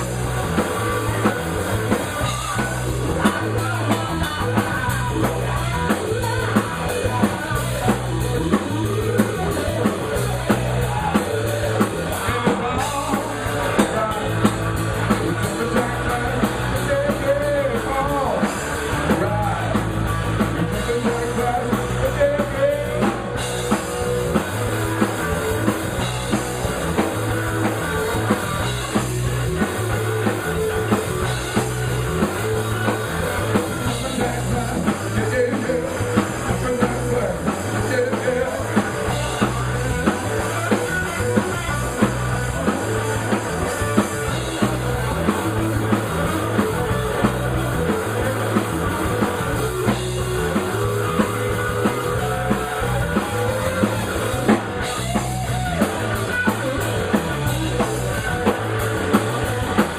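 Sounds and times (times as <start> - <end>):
bass guitar: 0.0 - 59.9
drum kit steady beat: 0.0 - 59.9
electric guitar: 0.0 - 59.9.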